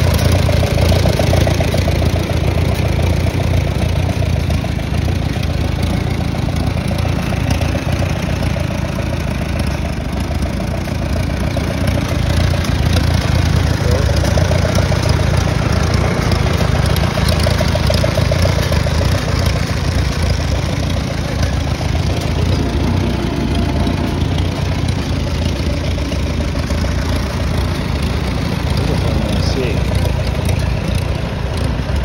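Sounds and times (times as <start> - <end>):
tractor engine idling: 0.0 - 32.0.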